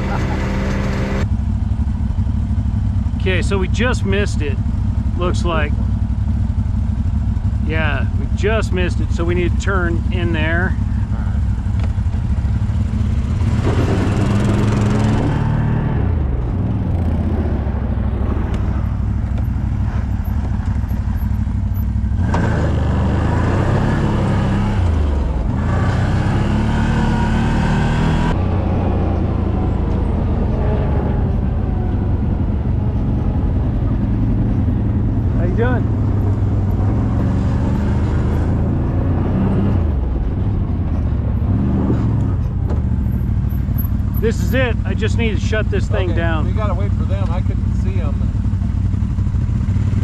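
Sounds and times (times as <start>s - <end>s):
vehicle engine revving: 0.0s - 50.0s.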